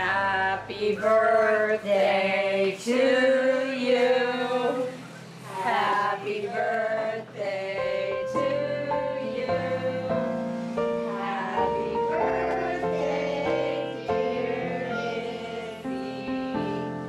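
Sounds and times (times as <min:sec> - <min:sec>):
voices singing: 0:00.0 - 0:10.4, 0:11.0 - 0:17.0.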